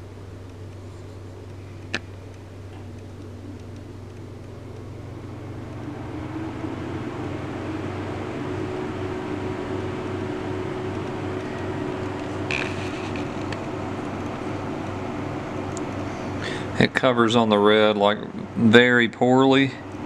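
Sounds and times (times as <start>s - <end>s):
low mechanical hum: 0.0s - 20.0s
rushing noise with steady tone: 2.9s - 20.0s.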